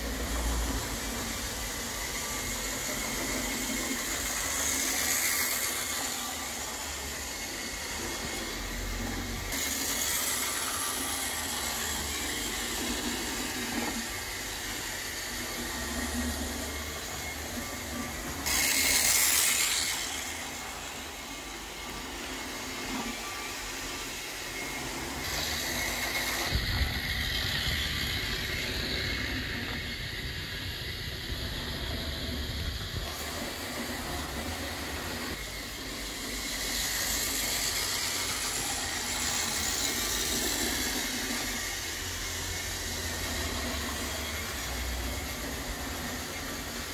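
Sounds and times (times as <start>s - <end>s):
model train wheel rumble: 0.0s - 23.4s, 24.8s - 46.9s
model train motor hum: 0.0s - 46.9s.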